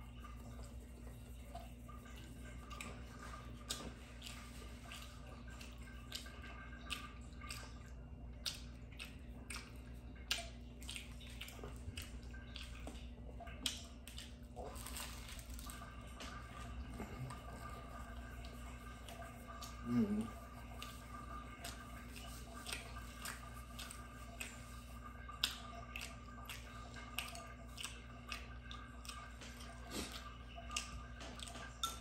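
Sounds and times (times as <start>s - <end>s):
chewing and slurping noodles: 0.0s - 32.0s
steady low hum: 0.0s - 32.0s.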